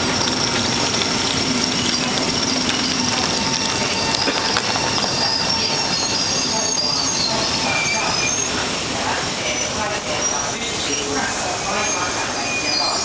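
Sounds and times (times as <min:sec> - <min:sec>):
high wheel squeal: 0:00.0 - 0:13.0
train wheels rumbling on rails: 0:00.0 - 0:13.0.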